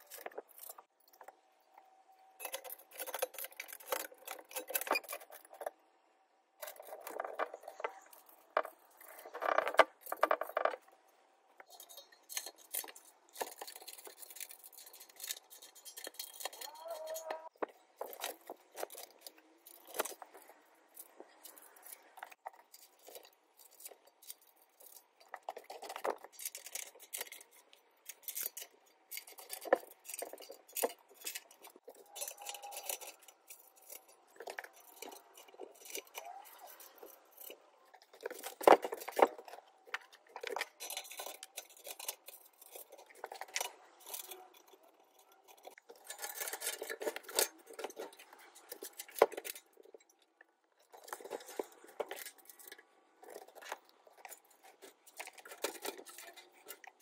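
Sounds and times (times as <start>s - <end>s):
bolts and nuts rattling: 0.0s - 1.4s, 2.4s - 5.8s, 6.6s - 11.0s, 11.6s - 57.0s
metal clinking and scraping: 0.0s - 57.0s.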